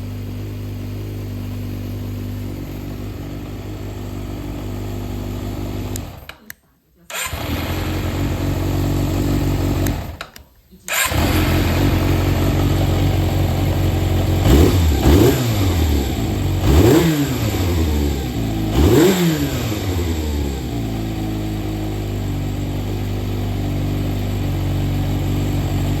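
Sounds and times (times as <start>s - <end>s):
motorcycle engine revving and idling: 0.0s - 6.3s, 7.2s - 10.2s, 10.9s - 26.0s.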